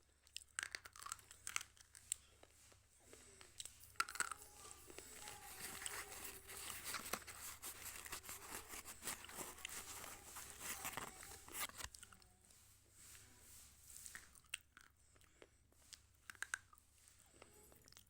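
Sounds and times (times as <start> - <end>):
gritty crunching of chewing: 0.2 - 12.2, 14.1 - 16.8.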